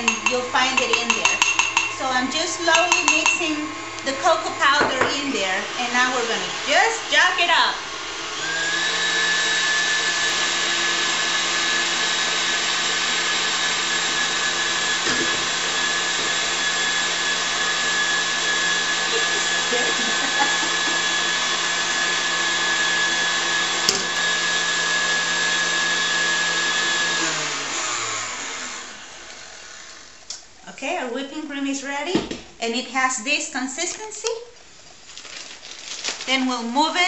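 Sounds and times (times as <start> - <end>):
stand mixer motor whine: 0.1 - 30.3.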